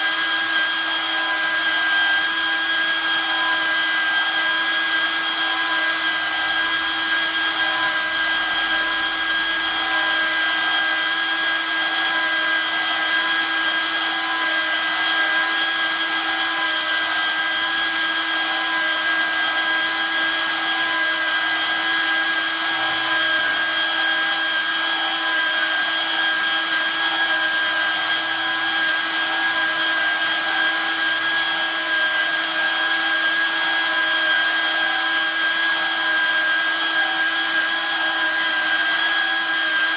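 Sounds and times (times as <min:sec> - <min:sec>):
pipe cutting machine motor whine: 0:00.0 - 0:39.9.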